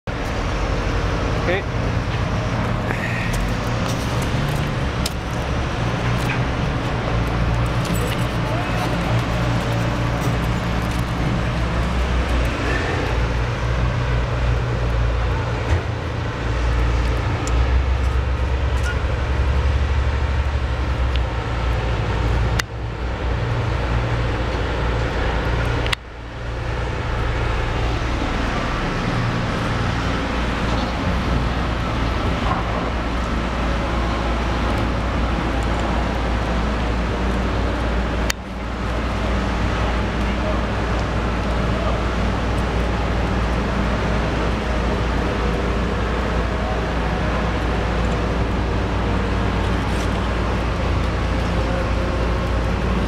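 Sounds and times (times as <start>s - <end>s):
low engine rumble: 0.1s - 53.0s.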